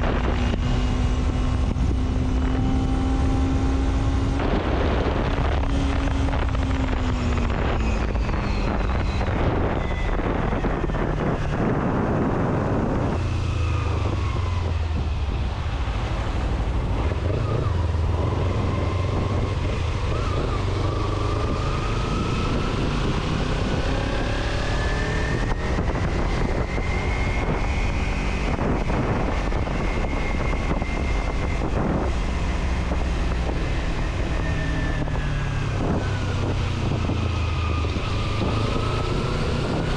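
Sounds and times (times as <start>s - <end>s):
vehicle engine rumble: 0.0s - 39.9s
wind and road noise: 0.0s - 39.9s.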